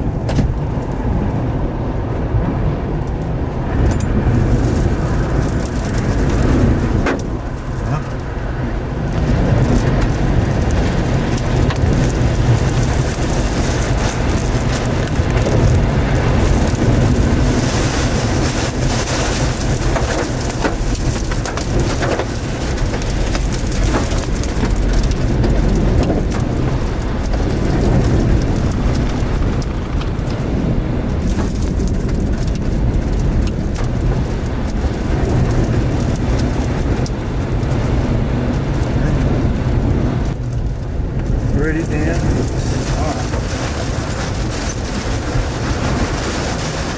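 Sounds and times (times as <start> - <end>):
heavy rain: 0.0 - 46.9
low rumble of wind: 0.0 - 46.9.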